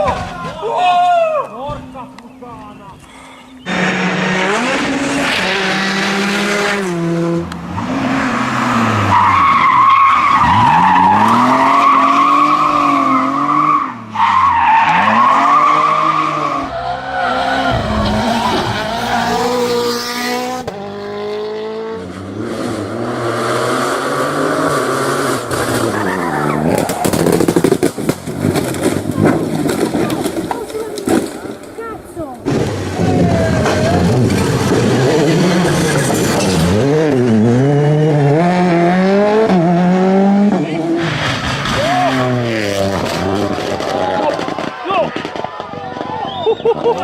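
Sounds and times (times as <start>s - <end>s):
rally car engines at full throttle: 1.6s - 47.0s.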